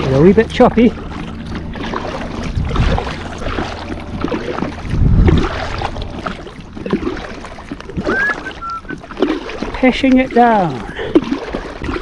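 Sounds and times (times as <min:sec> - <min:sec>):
water lapping against kayak: 0:00.0 - 0:12.0
wind buffeting microphone: 0:00.0 - 0:12.0.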